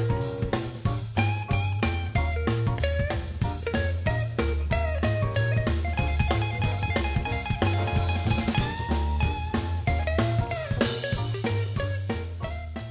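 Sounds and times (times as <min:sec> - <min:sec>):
guitar with drums and bass: 0:00.0 - 0:12.9.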